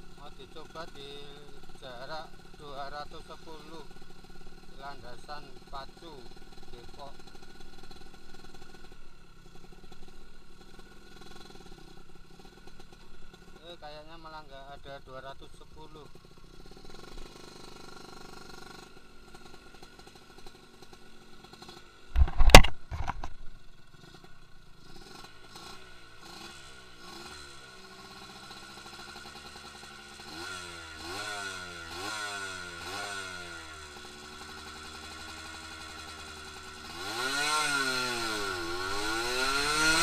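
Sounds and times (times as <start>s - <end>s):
two-stroke motorcycle engine revving: 0.0s - 40.0s.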